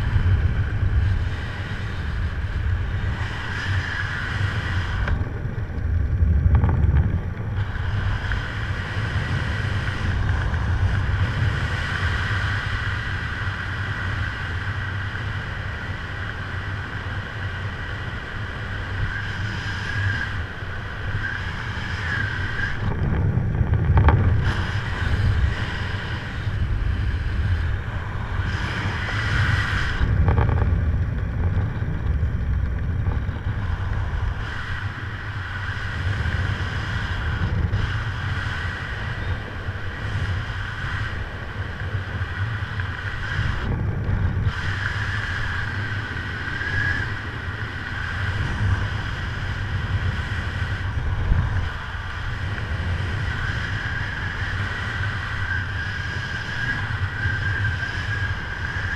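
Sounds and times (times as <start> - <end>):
wind rushing over microphone: 0.0 - 58.9.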